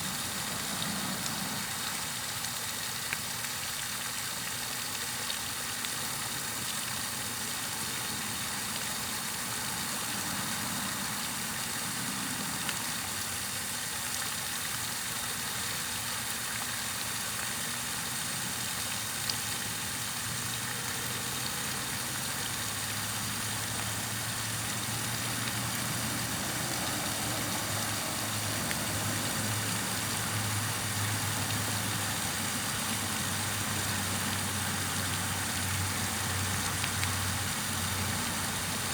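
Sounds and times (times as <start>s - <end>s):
white noise hiss: 0.0s - 5.1s, 5.9s - 38.9s.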